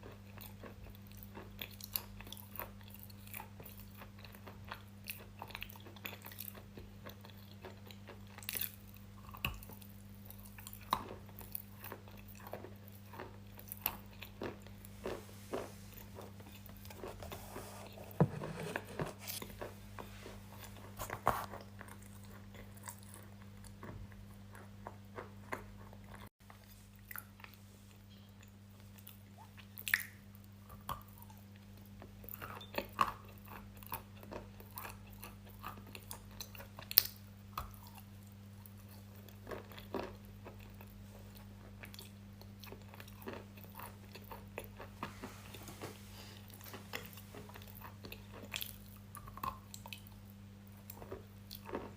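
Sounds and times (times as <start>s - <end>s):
crunchy food chewing: 0.0s - 51.9s
low electrical hum: 0.0s - 51.9s.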